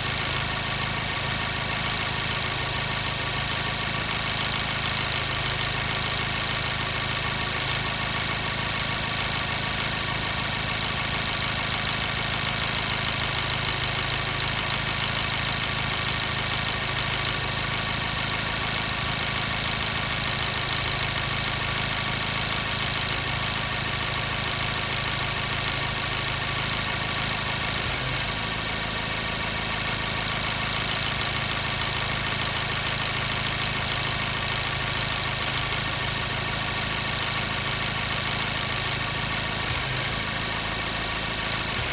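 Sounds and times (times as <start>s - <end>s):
car engine idling with misfire: 0.0s - 41.9s.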